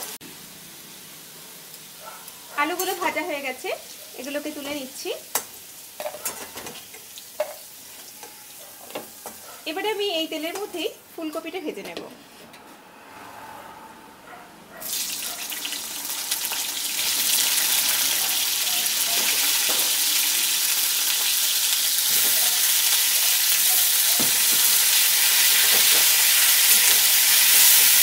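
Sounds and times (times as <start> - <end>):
vegetables sizzling in hot oil: 0.0 - 11.4, 14.8 - 28.0.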